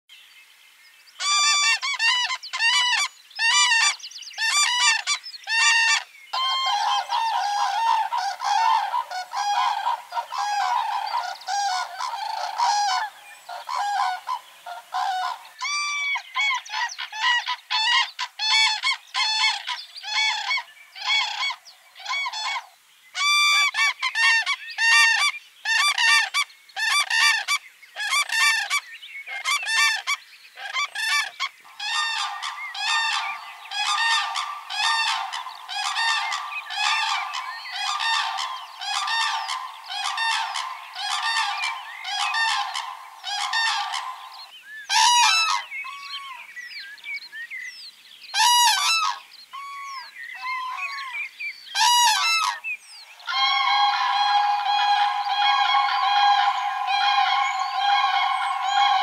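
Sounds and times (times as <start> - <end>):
cranes trumpeting calls: 1.2 - 28.8, 29.4 - 46.1, 48.4 - 51.0, 51.8 - 52.6, 53.2 - 59.0.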